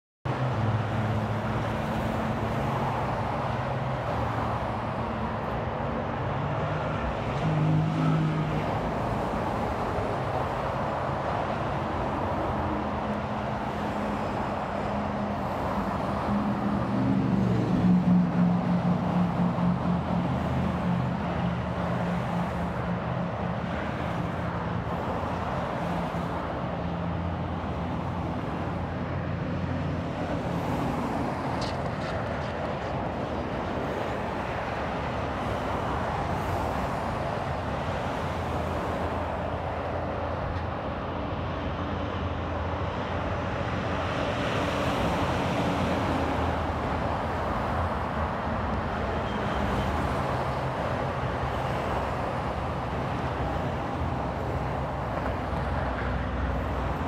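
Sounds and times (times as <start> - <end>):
highway traffic roar: 0.2 - 57.0.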